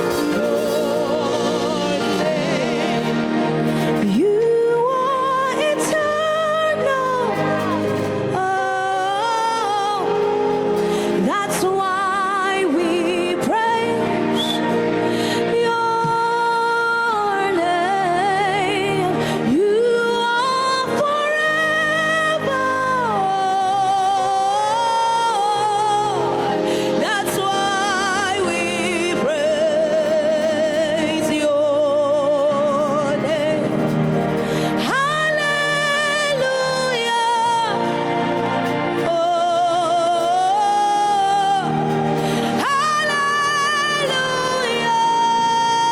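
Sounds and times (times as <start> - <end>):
person singing gospel: 0.0 - 45.9
sustained accompaniment: 0.0 - 45.9.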